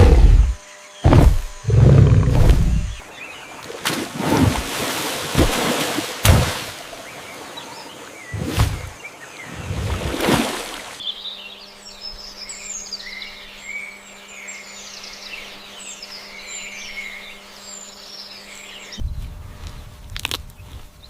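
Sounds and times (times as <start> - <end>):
songbirds chirping: 0.0 - 19.3
low steady hum: 0.0 - 21.0.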